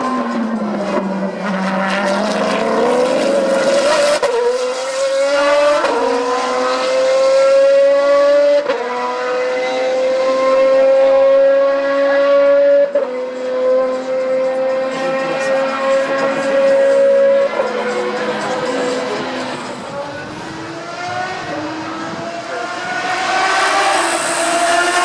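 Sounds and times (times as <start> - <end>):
racing engine accelerating hard: 0.0 - 25.0.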